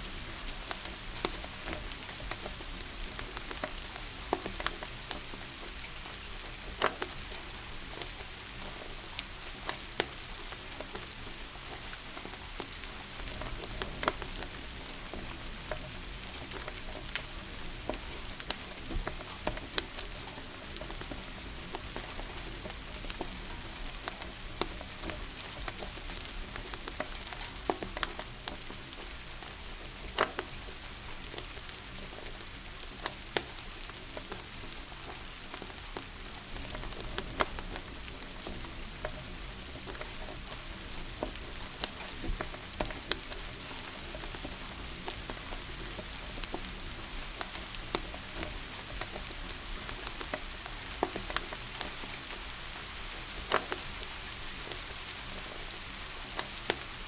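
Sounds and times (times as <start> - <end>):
rain hiss: 0.0 - 57.0
wood fire crackling: 0.0 - 57.0.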